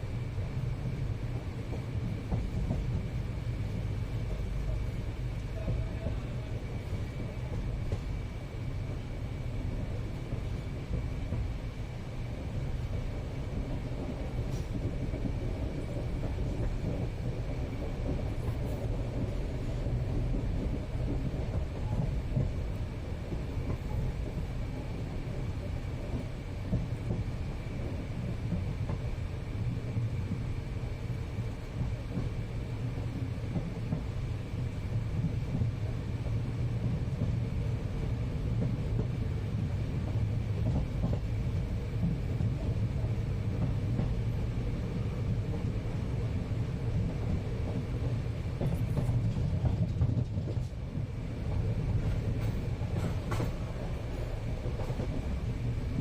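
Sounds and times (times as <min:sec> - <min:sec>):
train rumbling from inside: 0:00.0 - 0:56.0.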